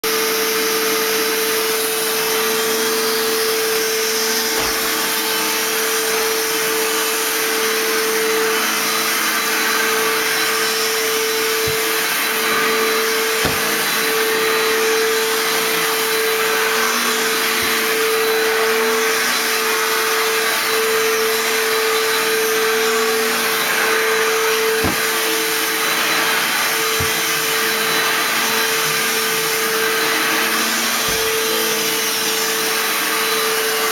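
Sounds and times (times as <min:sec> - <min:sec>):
vacuum motor hum: 0:00.1 - 0:33.9.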